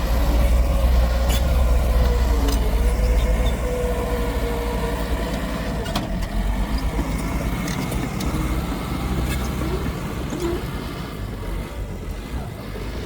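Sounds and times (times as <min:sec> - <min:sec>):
heavy diesel machinery rumbling: 0:00.0 - 0:13.0.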